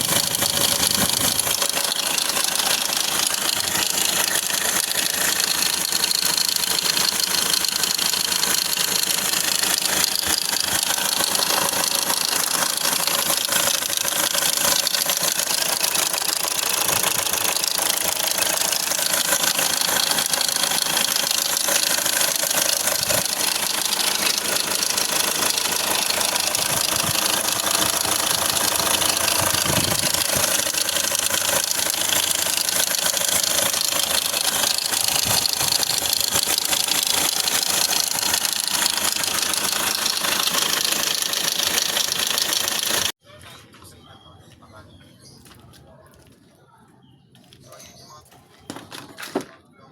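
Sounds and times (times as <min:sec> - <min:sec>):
diesel engine idling with rattling knock: 0:00.0 - 0:43.2, 0:48.7 - 0:49.8.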